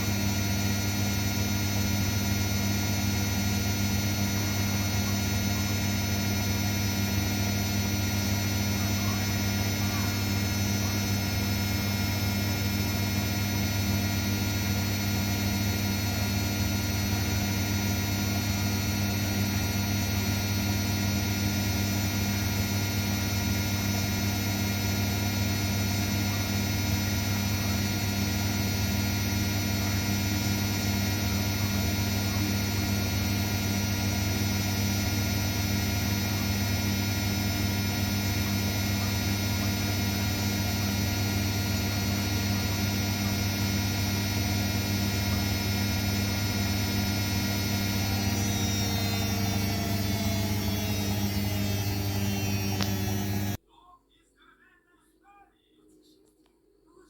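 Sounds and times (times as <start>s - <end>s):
washing machine humming: 0.0s - 53.6s.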